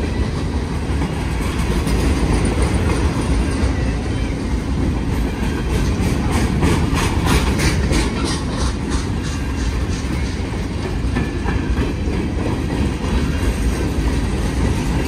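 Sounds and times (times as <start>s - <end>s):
rumble of steel wheels on rails: 0.0s - 15.0s.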